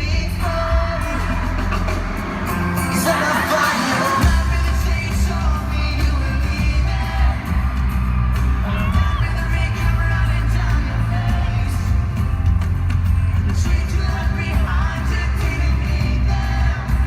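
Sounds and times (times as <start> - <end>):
fans yelling and whooping: 0.0 - 17.0
live pop-rock band with singing: 0.0 - 17.0.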